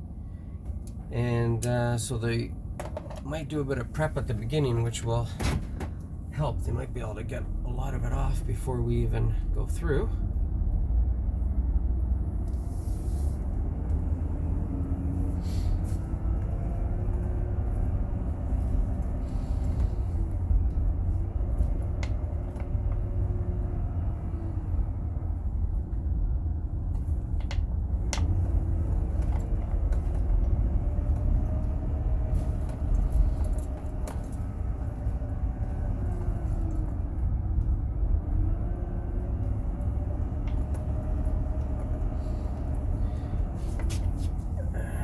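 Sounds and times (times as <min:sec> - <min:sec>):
road rumble: 0:00.0 - 0:45.0
van engine running: 0:00.0 - 0:45.0.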